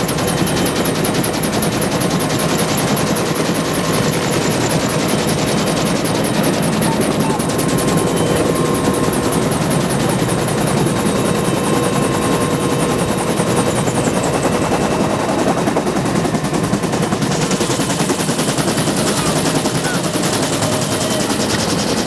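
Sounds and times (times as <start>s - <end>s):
helicopter rotor chopping: 0.0s - 22.0s.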